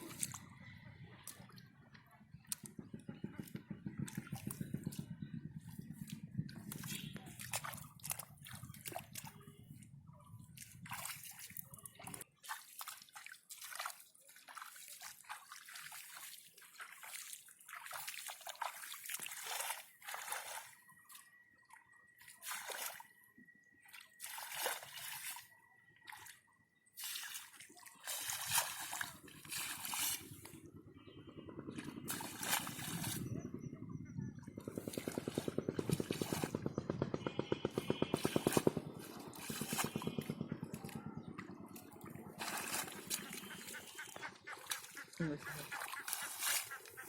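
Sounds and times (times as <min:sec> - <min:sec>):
muddy water sloshing and splashing: 0:00.0 - 0:47.0.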